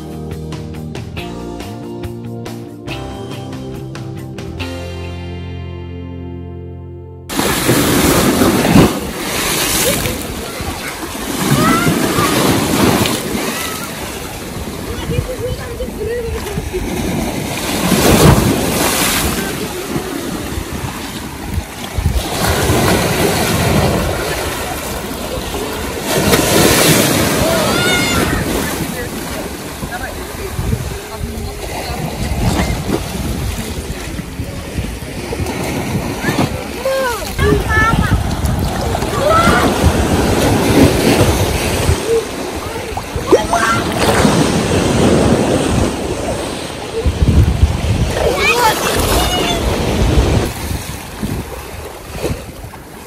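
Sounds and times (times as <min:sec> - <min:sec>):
sea waves breaking on rocks: 0:07.3 - 0:53.0
wind buffeting microphone: 0:07.3 - 0:53.0.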